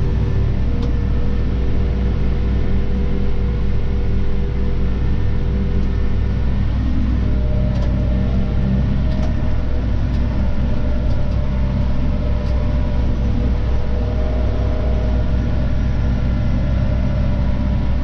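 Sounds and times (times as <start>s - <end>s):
tractor engine running under load: 0.0s - 18.0s.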